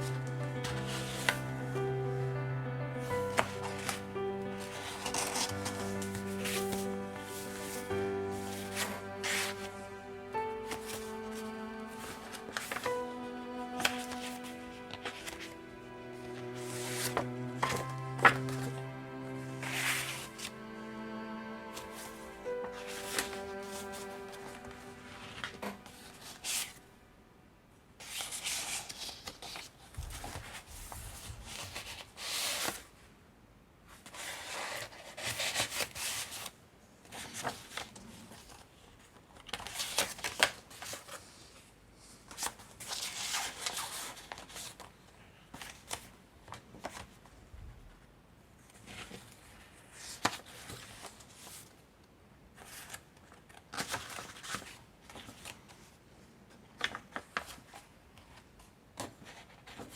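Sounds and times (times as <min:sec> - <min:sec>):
paper pages rustling: 0:00.0 - 0:01.6, 0:03.1 - 0:09.9, 0:10.7 - 0:15.6, 0:16.2 - 0:21.1, 0:21.7 - 0:26.8, 0:28.0 - 0:32.9, 0:34.0 - 0:41.3, 0:42.3 - 0:44.9, 0:45.5 - 0:47.2, 0:48.7 - 0:51.8, 0:52.6 - 0:55.9, 0:56.8 - 0:59.9.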